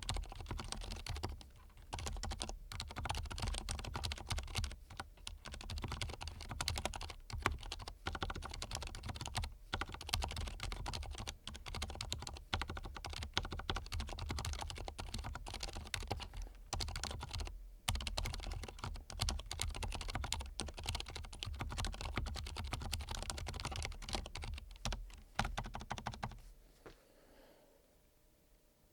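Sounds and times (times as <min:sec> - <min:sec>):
mechanical keyboard typing: 0:00.0 - 0:26.4.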